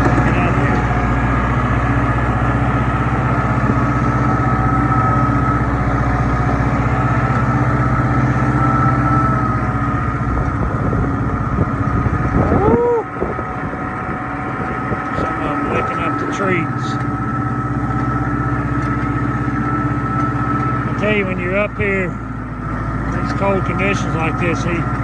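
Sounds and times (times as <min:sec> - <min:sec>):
tractor diesel engine rumbling: 0:00.0 - 0:25.0.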